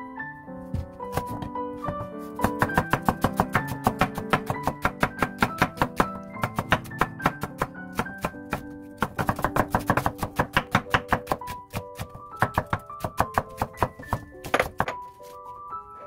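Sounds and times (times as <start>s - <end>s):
background music: 0.0s - 16.0s
knife chopping on wooden board: 1.1s - 15.0s.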